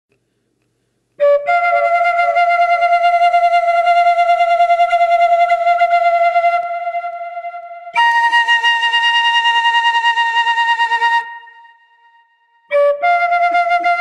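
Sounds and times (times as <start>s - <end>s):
bamboo flute playing slow melody: 1.2s - 14.0s.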